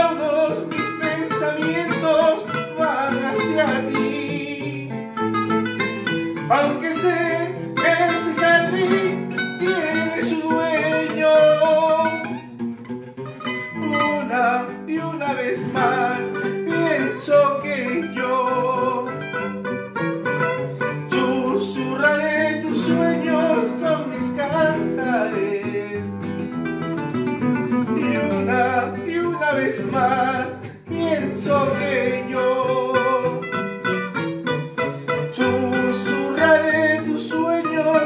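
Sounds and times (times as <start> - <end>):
plucked acoustic guitar melody: 0.0 - 38.0
strummed acoustic guitar: 0.0 - 38.0.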